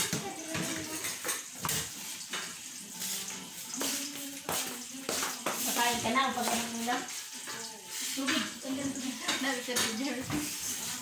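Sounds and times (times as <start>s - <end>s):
dishes and cutlery clinking: 0.0s - 11.0s.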